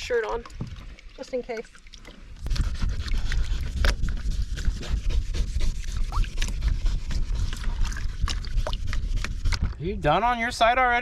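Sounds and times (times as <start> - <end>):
water sloshing against boat: 0.0 - 9.8.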